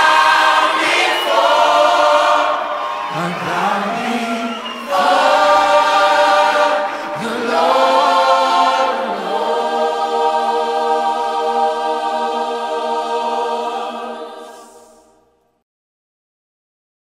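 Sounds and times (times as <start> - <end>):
choir singing held chords: 0.0 - 15.4.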